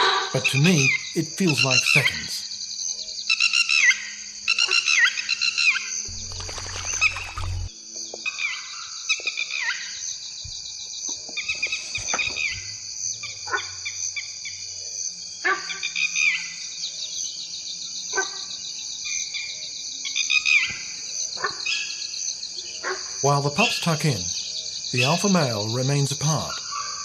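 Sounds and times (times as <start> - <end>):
crickets and insects chirping: 0.4 - 27.0.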